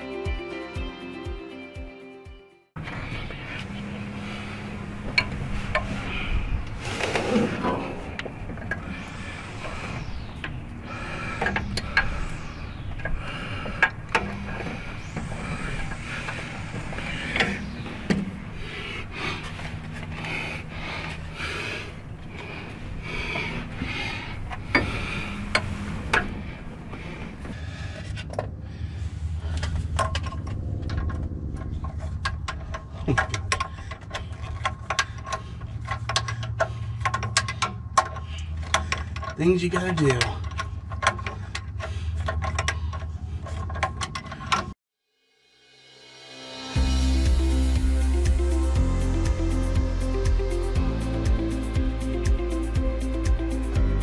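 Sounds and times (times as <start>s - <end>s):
low hum: 2.8s - 39.4s, 40.2s - 54.0s.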